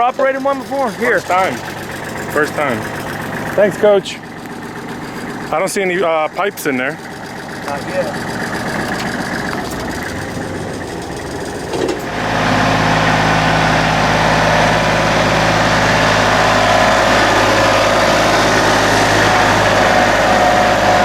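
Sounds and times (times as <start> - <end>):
backhoe diesel engine: 0.0 - 21.0.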